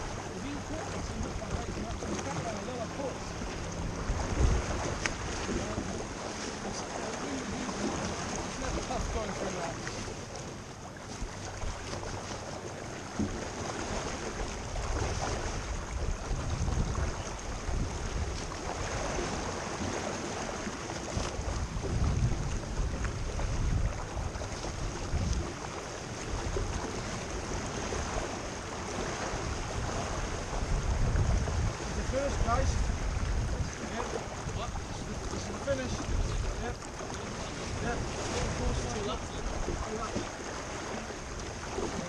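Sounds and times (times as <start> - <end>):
water rushing along hull: 0.0 - 42.0
wind buffeting microphone: 0.0 - 42.0.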